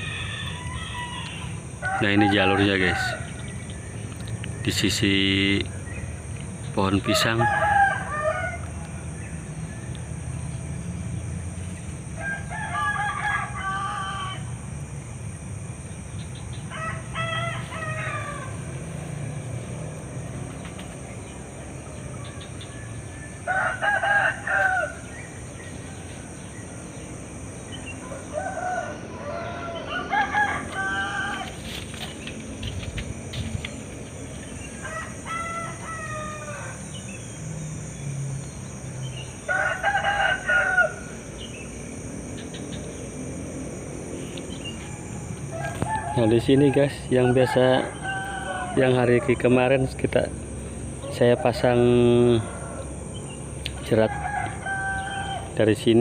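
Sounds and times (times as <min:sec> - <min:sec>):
roosters crowing: 0:00.0 - 0:56.0.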